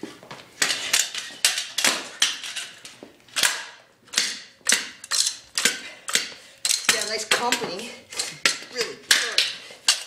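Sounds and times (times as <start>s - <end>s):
scooter clacking on concrete: 0.6s - 10.0s.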